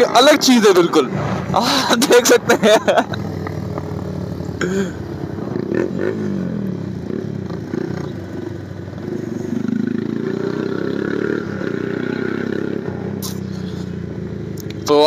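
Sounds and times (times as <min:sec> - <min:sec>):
motorcycle engine riding: 0:00.0 - 0:15.0.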